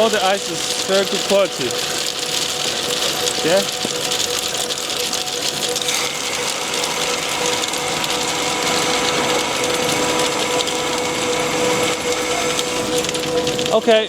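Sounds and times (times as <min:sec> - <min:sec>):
ice tubes clattering: 0:00.0 - 0:14.0
motor whine: 0:00.0 - 0:14.0.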